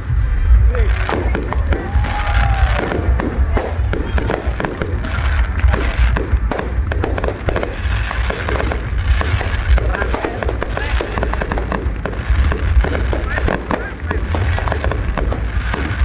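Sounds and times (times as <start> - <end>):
fireworks deep bursts: 0.0 - 16.0
fireworks crackling: 0.7 - 16.0.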